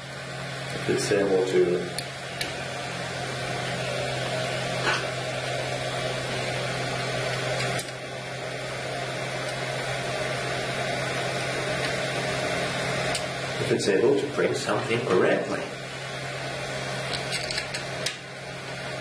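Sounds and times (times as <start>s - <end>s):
cooling fan whirring hum: 0.0s - 19.0s
low drone: 0.8s - 16.2s.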